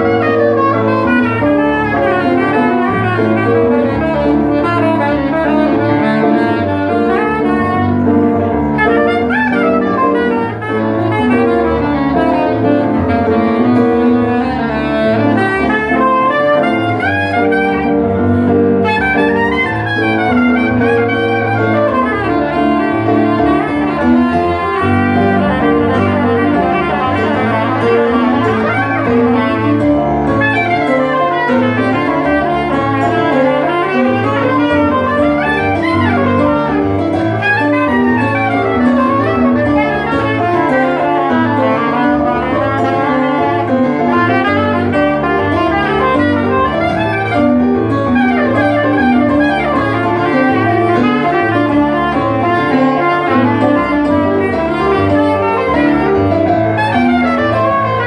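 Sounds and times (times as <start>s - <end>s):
keyboard accompaniment: 0.0s - 58.0s
soprano saxophone melody: 0.0s - 58.0s.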